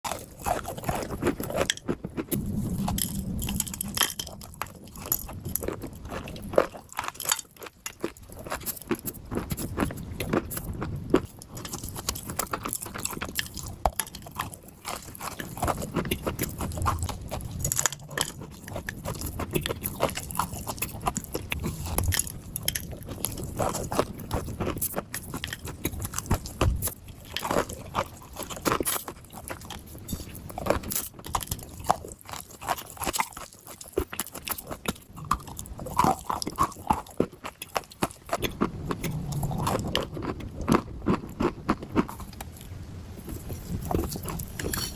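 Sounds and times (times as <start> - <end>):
person chewing crunchy clay: 0.0 - 44.9.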